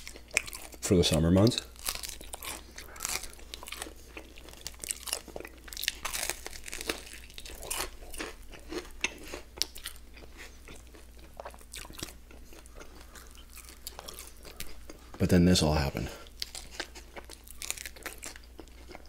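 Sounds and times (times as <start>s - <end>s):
crunching chicken wings: 0.0s - 15.3s, 16.2s - 19.0s.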